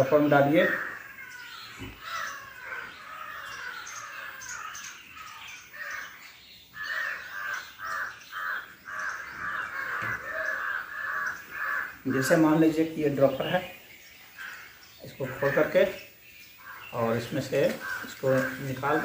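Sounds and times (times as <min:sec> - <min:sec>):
bird cawing: 0:00.0 - 0:19.0
birds chattering: 0:00.0 - 0:19.0.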